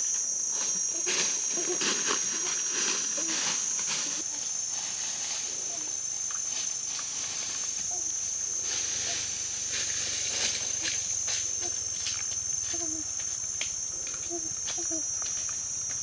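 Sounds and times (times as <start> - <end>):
high-pitched insect drone: 0.0 - 16.0
footsteps on dry leaves: 0.5 - 13.6.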